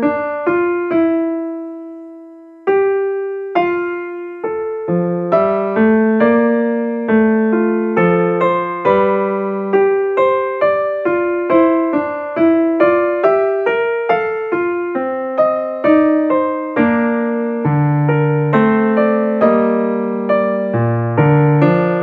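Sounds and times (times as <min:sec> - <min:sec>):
slow solo piano piece: 0:00.0 - 0:22.0.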